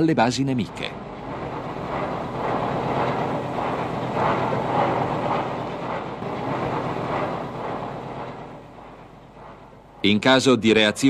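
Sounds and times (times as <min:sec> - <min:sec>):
running machinery rumble: 0:00.0 - 0:11.0.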